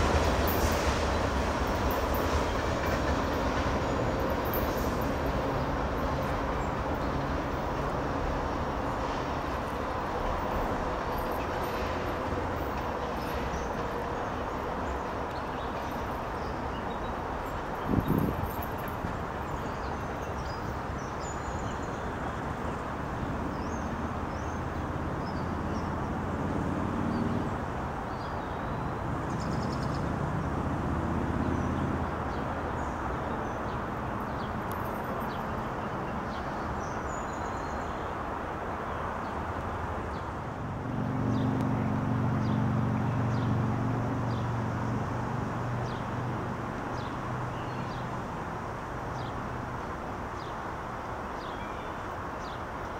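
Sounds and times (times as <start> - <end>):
distant engine hum: 0.0 - 51.4
outdoor background noise: 0.0 - 52.9.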